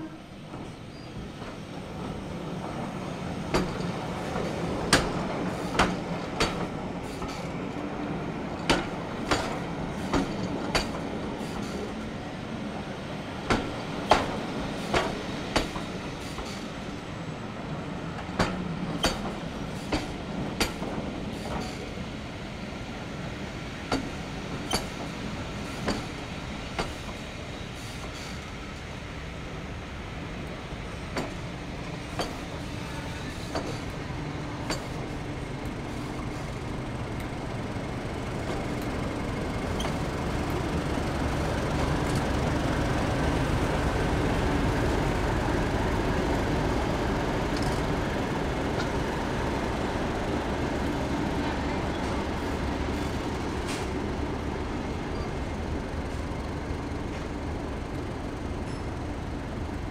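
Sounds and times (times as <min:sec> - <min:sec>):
train coaches rumbling past: 0:00.0 - 0:59.9.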